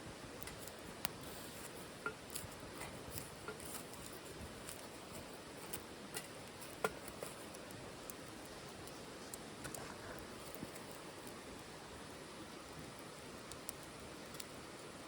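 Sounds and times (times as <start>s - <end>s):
fire crackles and pops: 0.0s - 15.0s
wood fire hissing: 0.0s - 15.0s.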